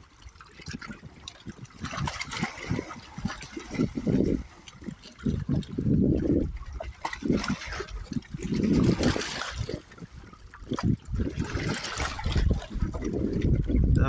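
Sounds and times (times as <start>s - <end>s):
water sloshing and trickling: 0.0s - 14.0s.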